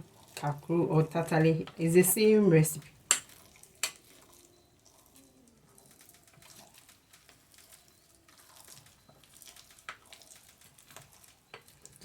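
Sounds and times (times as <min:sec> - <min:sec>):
spoon stirring soft dough: 0:00.0 - 0:12.0.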